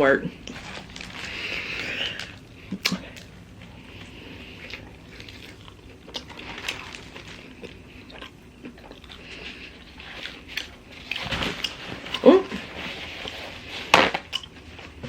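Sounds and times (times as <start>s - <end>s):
faint crunches: 0.3s - 15.0s
person chewing sandwich: 0.3s - 15.0s.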